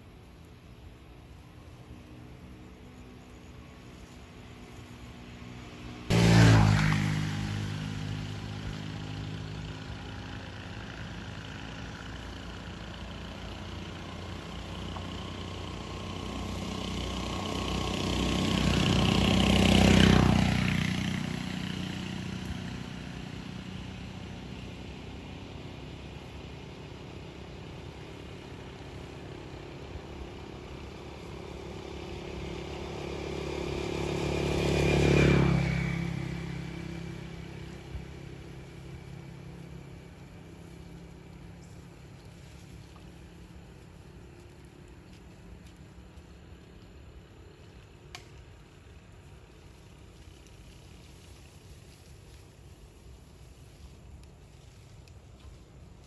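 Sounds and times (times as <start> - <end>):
vehicles passing on road: 0.0 - 56.0.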